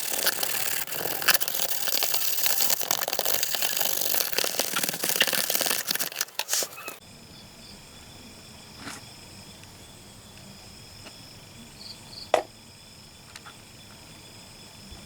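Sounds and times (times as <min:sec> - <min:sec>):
high-pitched insect-like chirring: 0:00.0 - 0:15.0.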